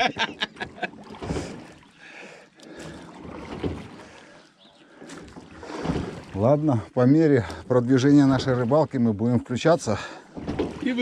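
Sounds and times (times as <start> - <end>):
oars dipping through water: 0.0 - 11.0.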